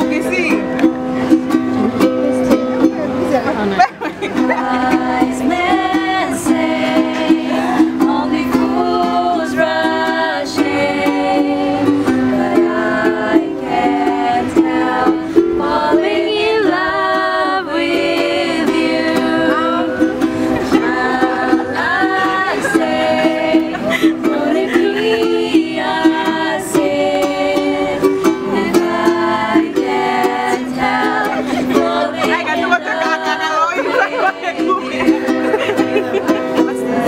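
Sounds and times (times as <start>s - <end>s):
ukulele strumming: 0.0s - 37.0s
voices singing: 0.0s - 37.0s.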